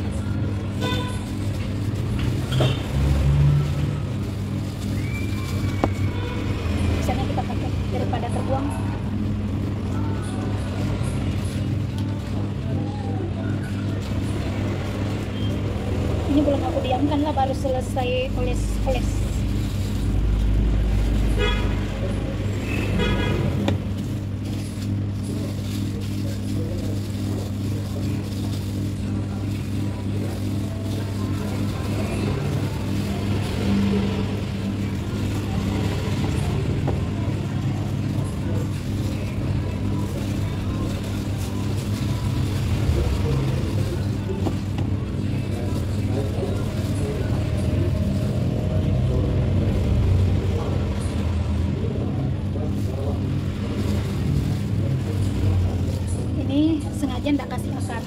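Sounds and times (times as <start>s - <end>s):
low background hum and rumble: 0.0s - 58.0s.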